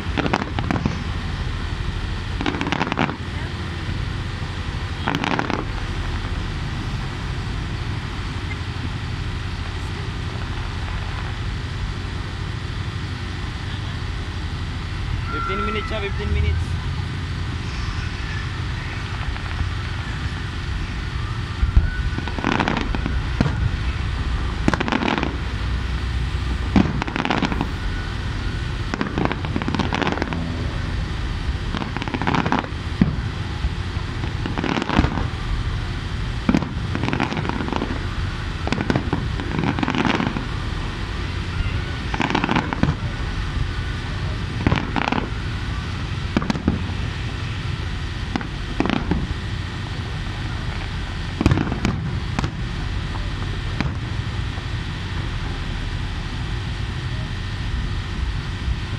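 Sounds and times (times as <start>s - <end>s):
fireworks bursting with bangs: 0.0s - 58.9s
low background rumble: 0.0s - 58.9s.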